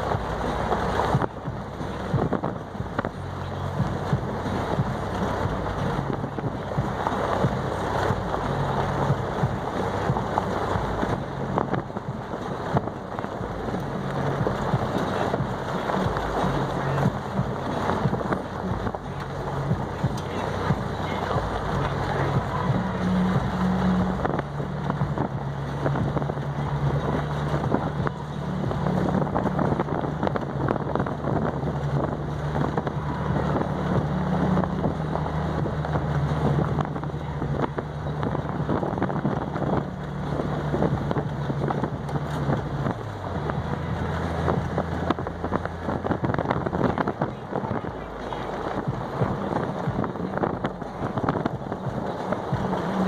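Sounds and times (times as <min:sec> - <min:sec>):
wind noise on microphone: 0:00.0 - 0:53.0.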